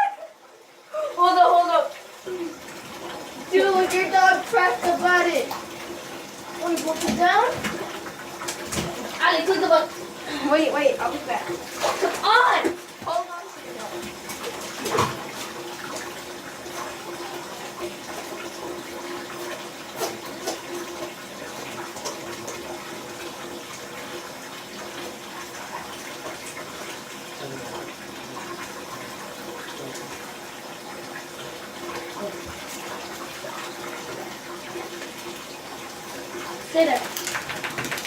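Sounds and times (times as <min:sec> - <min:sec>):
water running into a bathtub: 0:00.0 - 0:38.0.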